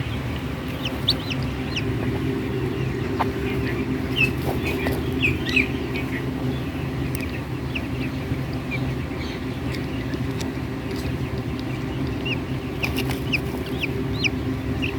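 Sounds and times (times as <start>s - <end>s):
chicks peeping: 0.0s - 14.9s
steady low hum: 0.0s - 14.9s.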